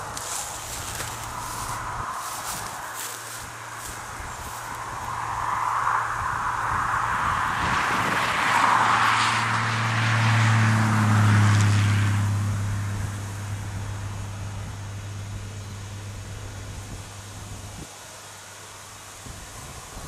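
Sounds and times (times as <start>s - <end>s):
diesel engine drone: 0.0s - 20.0s
rushing noise of passing railcar: 0.0s - 20.0s.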